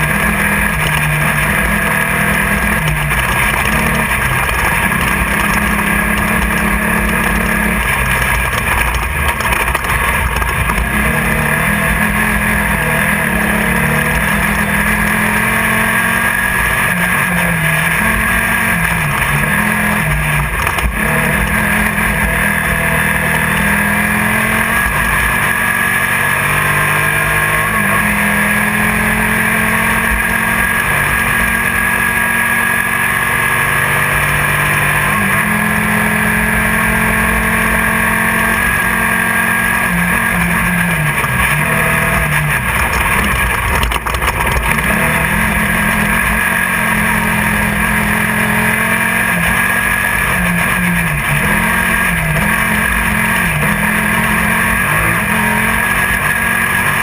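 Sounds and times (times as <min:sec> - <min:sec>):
buggy engine running hard: 0:00.0 - 0:57.0.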